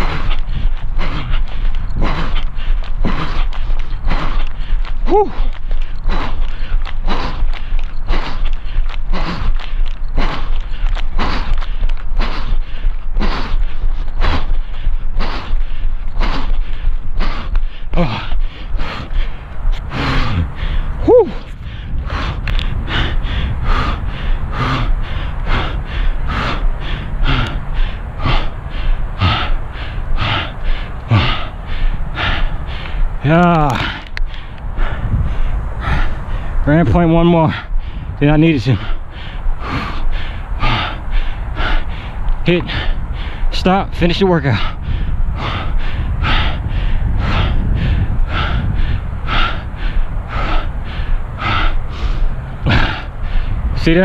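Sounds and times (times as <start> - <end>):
runner breathing hard: 0.0 - 54.0
steady low rumble: 0.0 - 54.0.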